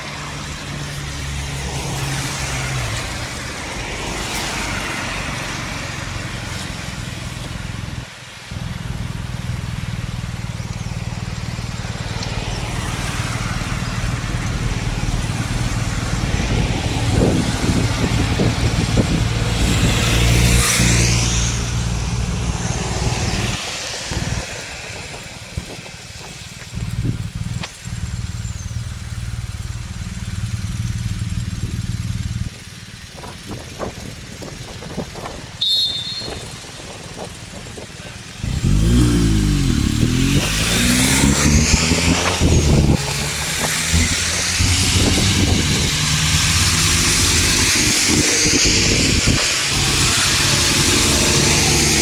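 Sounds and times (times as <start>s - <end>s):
vehicle engines passing: 0.0s - 52.0s.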